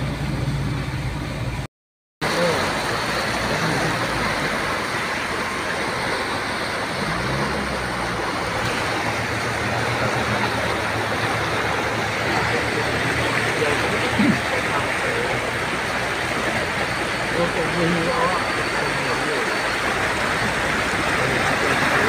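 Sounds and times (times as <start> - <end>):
floodwater rushing: 0.0 - 22.0
vehicle engine running: 0.0 - 22.0.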